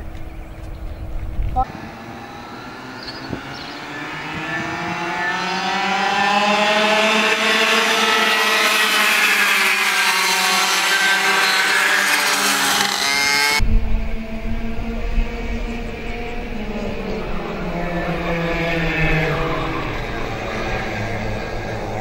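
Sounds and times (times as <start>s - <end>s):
racing kart engines at full throttle: 1.6s - 22.0s.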